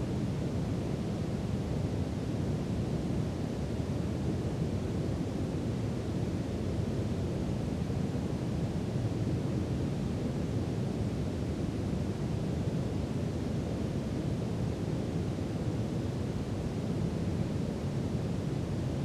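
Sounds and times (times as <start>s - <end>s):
steady brown noise: 0.0s - 19.0s.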